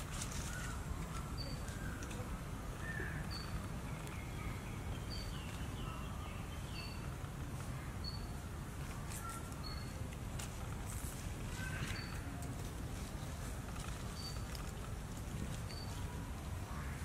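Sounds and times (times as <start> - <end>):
birds chirping: 0.3 - 8.6, 9.2 - 10.1, 11.4 - 12.4, 13.0 - 17.0.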